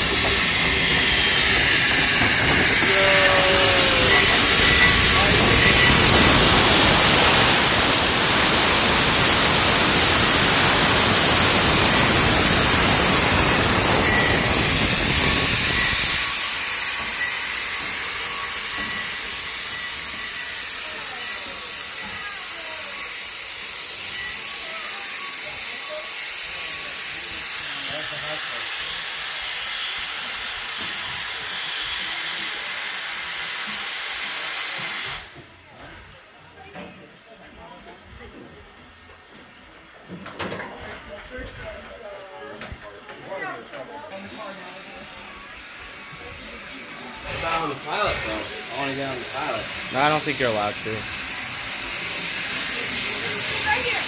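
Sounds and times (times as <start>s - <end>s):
steam locomotive hissing: 0.0s - 40.2s, 40.8s - 54.0s.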